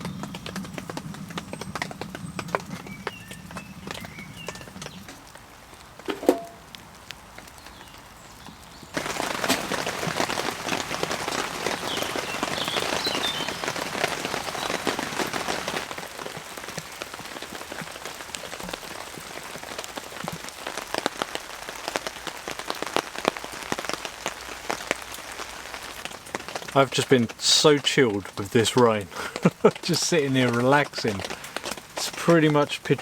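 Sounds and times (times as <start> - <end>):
heavy rain on a tent: 0.0 - 33.0.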